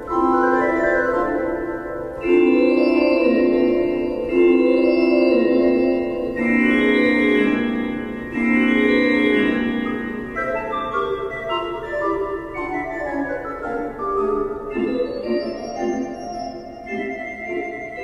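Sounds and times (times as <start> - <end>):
organ music: 0.0 - 18.0.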